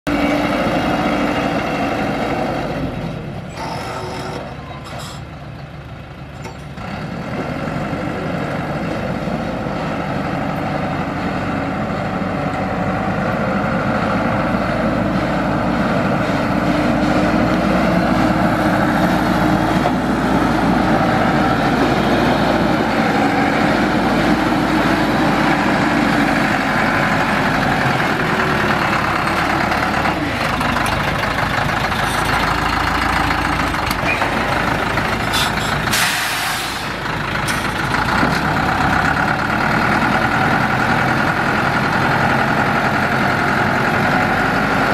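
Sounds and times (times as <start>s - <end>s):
truck diesel engine running: 0.1s - 44.9s.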